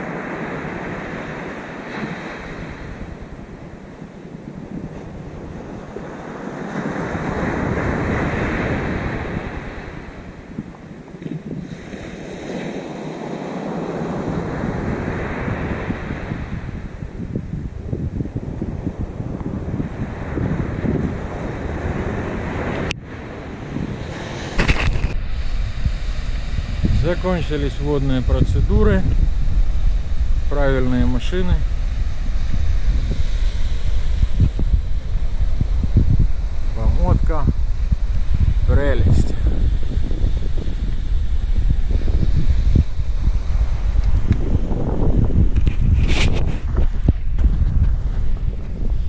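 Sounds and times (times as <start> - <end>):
wave breaking and washing in: 0.0 - 49.0
wind buffeting microphone: 0.0 - 49.0.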